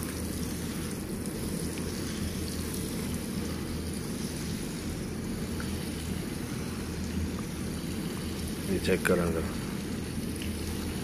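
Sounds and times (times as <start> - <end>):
shower spray on seedling trays: 0.0 - 11.0.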